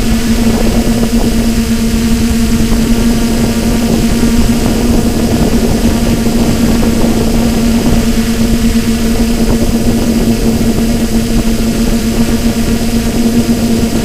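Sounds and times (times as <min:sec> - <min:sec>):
air rushing: 0:00.0 - 0:14.0
drone propellers whining: 0:00.0 - 0:14.0.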